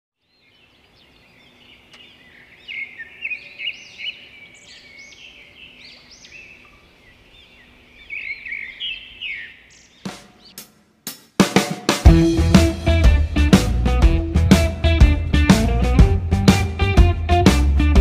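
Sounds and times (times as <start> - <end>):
birds chirping: 0.2 - 10.8, 12.2 - 17.9.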